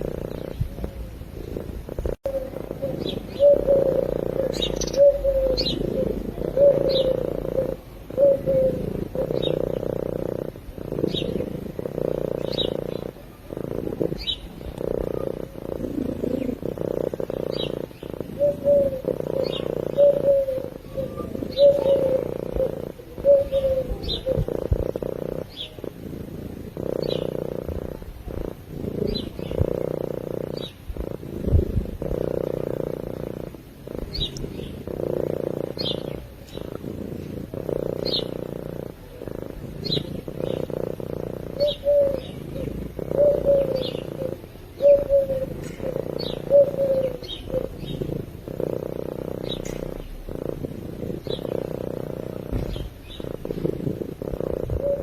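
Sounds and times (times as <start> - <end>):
cat purring: 0.0 - 55.0
small birds chirping: 0.0 - 55.0.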